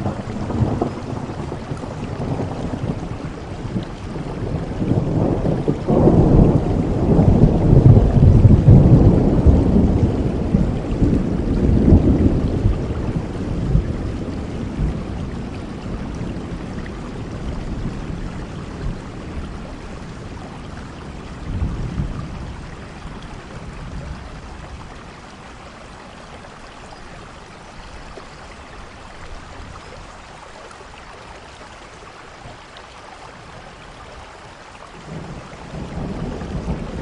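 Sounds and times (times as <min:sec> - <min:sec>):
low rumble of thunder: 0:00.0 - 0:28.2, 0:34.9 - 0:37.0
steady rain falling: 0:00.0 - 0:37.0.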